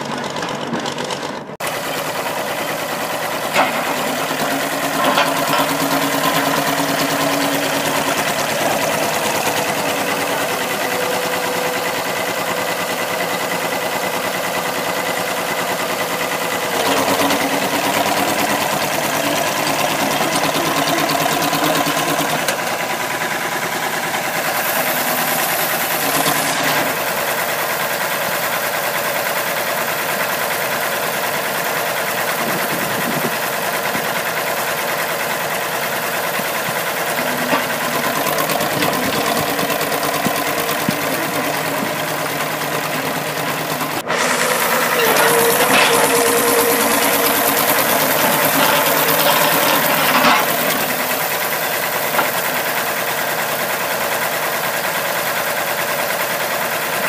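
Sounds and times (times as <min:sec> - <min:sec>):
crawler tractor running on tracks: 0:00.0 - 0:57.0.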